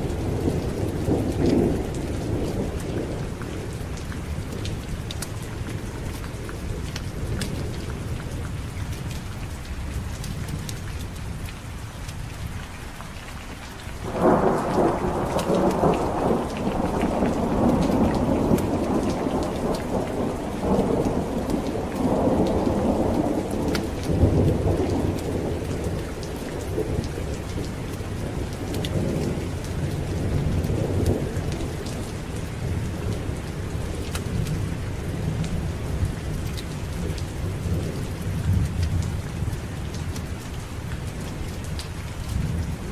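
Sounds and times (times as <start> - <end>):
thunder rumbling: 0.0 - 8.8, 14.0 - 42.9
steady rain: 0.0 - 42.9.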